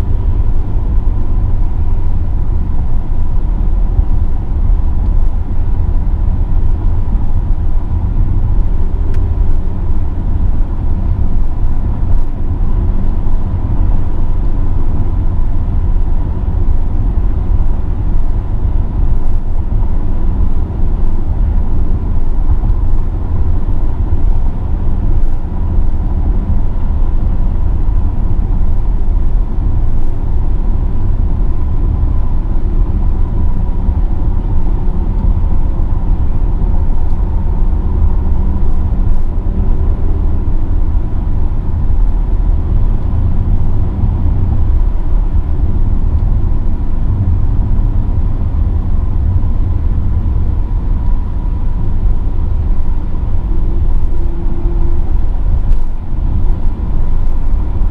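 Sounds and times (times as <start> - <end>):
car engine low rumble: 0.0 - 57.9
wind noise: 0.0 - 57.9.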